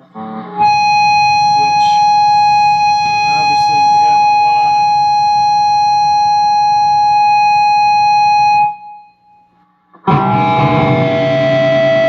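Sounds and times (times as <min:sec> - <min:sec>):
distorted electric guitar chord: 0:00.0 - 0:09.1, 0:10.1 - 0:12.0
high-pitched amplifier whine: 0:00.0 - 0:12.0
low amplifier buzz: 0:00.0 - 0:12.0.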